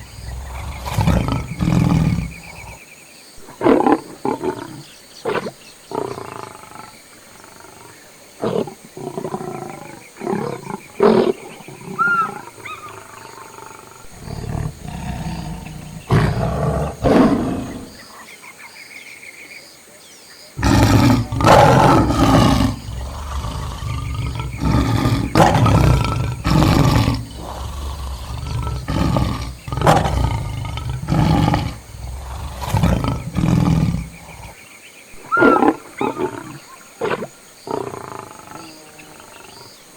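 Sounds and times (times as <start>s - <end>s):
lions calling: 0.0s - 2.8s, 3.4s - 18.0s, 20.6s - 34.6s, 35.2s - 39.7s.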